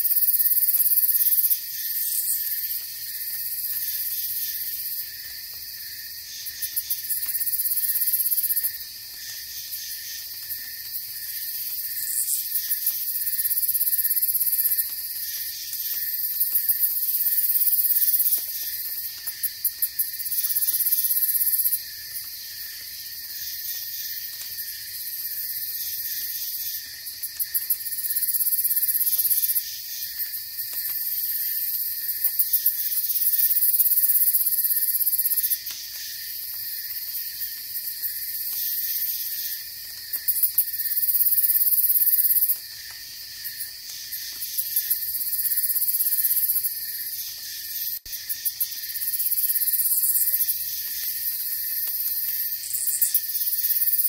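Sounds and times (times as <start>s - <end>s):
crickets buzzing trill: 0.0s - 54.0s
rapid cricket chirps: 0.0s - 54.0s.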